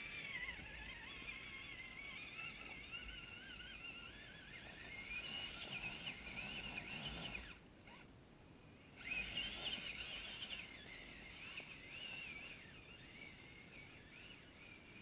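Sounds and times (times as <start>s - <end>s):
rc car motor whining: 0.0s - 8.1s, 8.8s - 15.0s.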